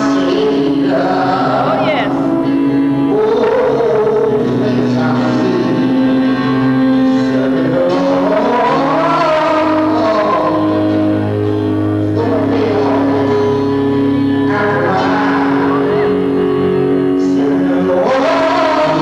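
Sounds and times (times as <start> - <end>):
electric keyboard chords: 0.0 - 19.0
man singing into a microphone: 0.0 - 19.0.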